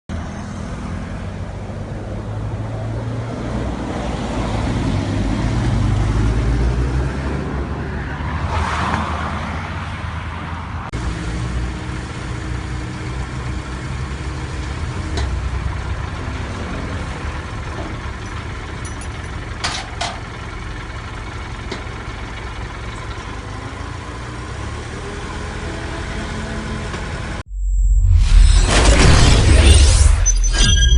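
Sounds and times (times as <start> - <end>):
vehicles passing: 0.1 - 27.4.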